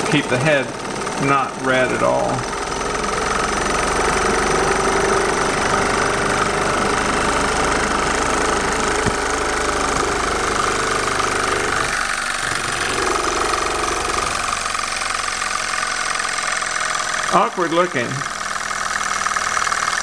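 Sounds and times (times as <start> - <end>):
stirling engine running: 0.0 - 20.0.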